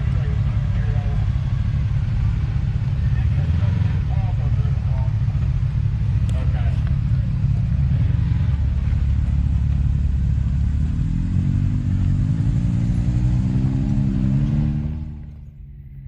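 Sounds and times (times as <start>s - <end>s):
utility vehicle engine revving: 0.0s - 15.9s.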